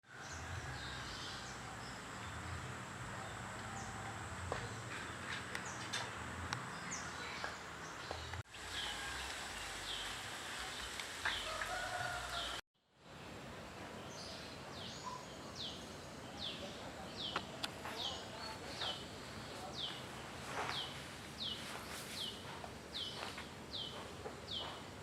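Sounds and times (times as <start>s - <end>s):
outdoor background hiss: 0.1s - 25.0s
birds chirping: 0.2s - 12.6s, 13.8s - 25.0s.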